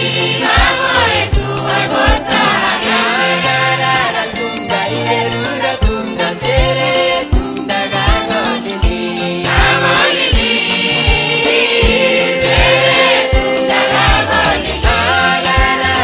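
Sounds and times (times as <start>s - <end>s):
steady drum beat: 0.0s - 4.3s, 5.8s - 16.0s
bass line: 0.0s - 16.0s
choir singing gospel: 0.0s - 16.0s.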